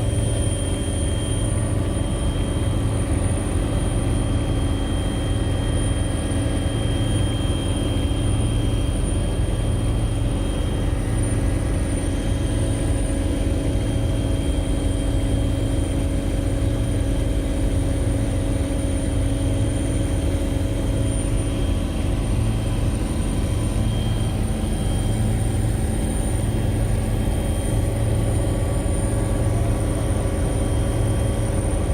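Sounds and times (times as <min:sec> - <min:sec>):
helicopter rotor and engine drone: 0:00.0 - 0:31.9.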